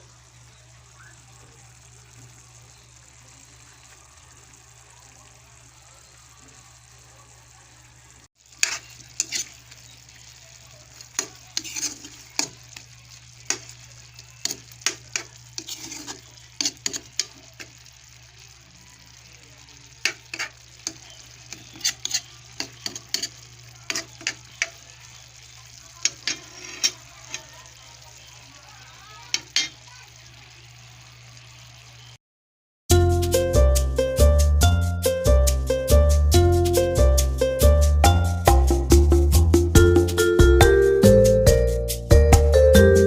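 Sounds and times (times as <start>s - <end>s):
food frying in a pan: 0.0s - 32.2s, 32.9s - 43.0s.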